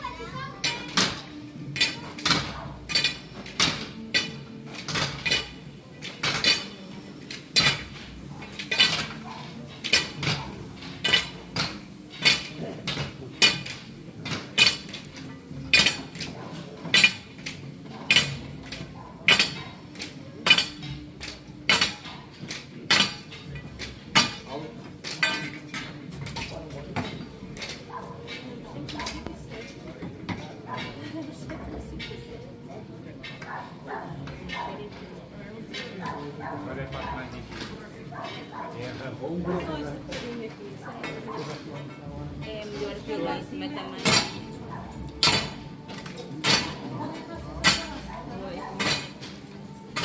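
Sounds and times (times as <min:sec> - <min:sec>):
murmur of voices: 0:00.0 - 0:50.0.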